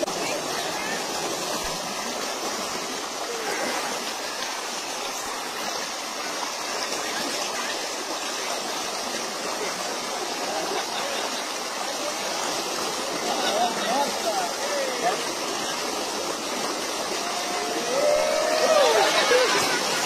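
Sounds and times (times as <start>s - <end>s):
stream rushing over rocks: 0.0s - 20.0s.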